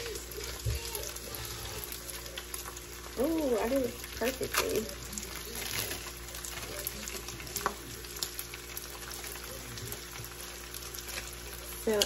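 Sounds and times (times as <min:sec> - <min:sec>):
faint crackles: 0:00.0 - 0:12.0
food sizzling in a pan: 0:00.0 - 0:12.0.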